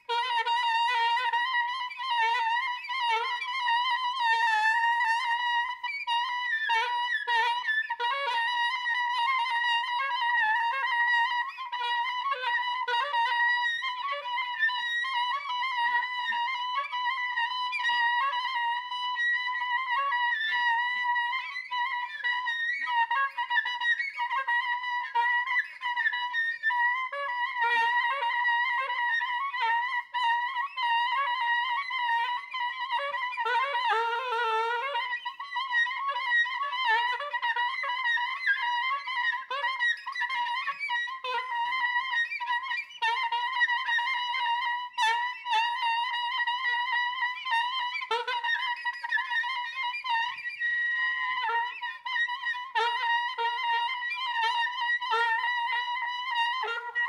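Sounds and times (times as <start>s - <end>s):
soprano saxophone improvising: 0.0s - 18.8s, 19.6s - 57.0s.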